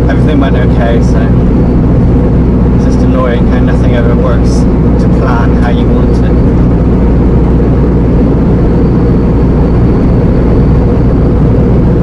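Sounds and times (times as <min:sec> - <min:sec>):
lorry diesel engine drone: 0:00.0 - 0:12.0
road noise: 0:00.0 - 0:12.0.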